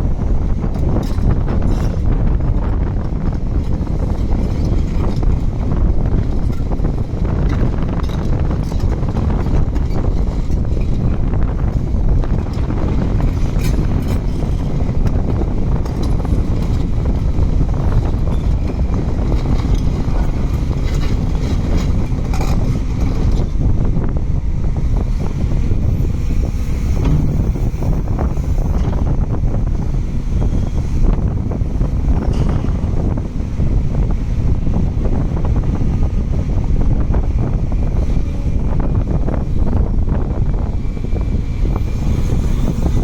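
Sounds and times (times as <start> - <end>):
excavator diesel engine running: 0.0 - 43.0
wind buffeting microphone: 0.0 - 43.0.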